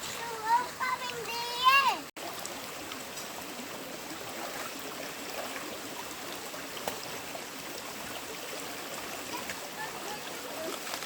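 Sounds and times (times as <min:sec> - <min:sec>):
running water in stream: 0:00.0 - 0:11.0.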